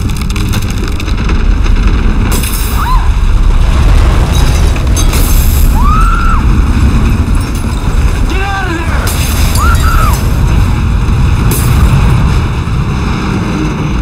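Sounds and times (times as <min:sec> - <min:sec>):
falling debris crashes: 0:00.0 - 0:12.9
deep earthquake rumble: 0:00.0 - 0:14.0.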